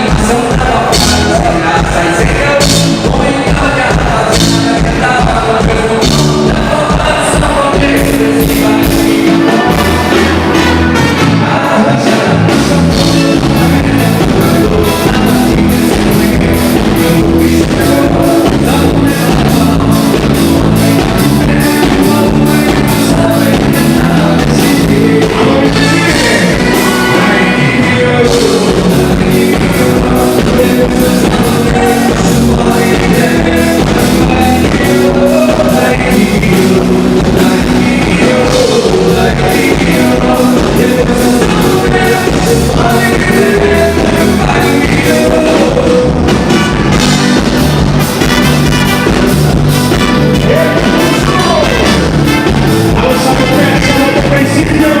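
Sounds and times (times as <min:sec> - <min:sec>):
fast drum beat: 0:00.0 - 0:55.0
live band dance music: 0:00.0 - 0:55.0
person singing: 0:00.0 - 0:55.0.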